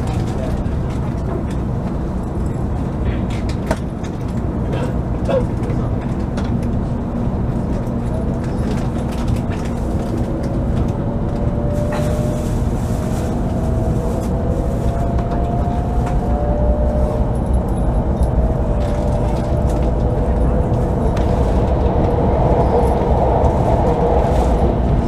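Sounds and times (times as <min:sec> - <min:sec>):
train running gear rumble: 0:00.0 - 0:25.0.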